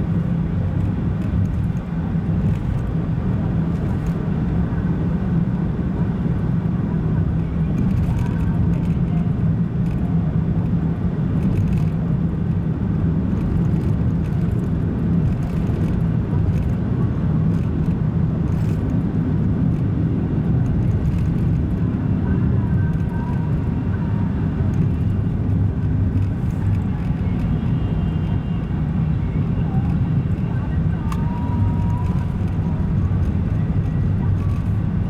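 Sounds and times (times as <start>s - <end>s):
engine and road noise drone: 0.0s - 35.0s.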